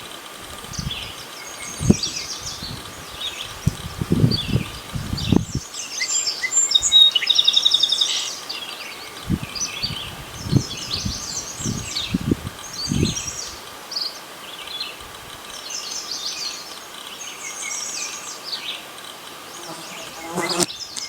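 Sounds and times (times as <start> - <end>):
small birds chirping: 0.7 - 21.0.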